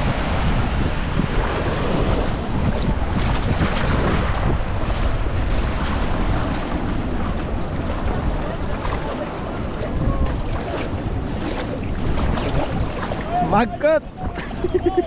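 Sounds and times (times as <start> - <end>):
small waves lapping: 0.0 - 15.0
wind buffeting microphone: 0.0 - 15.0.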